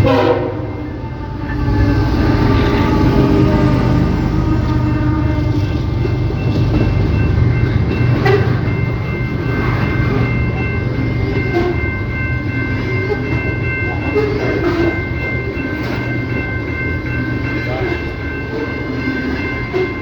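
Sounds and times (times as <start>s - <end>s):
freight train rumbling: 0.0s - 20.0s.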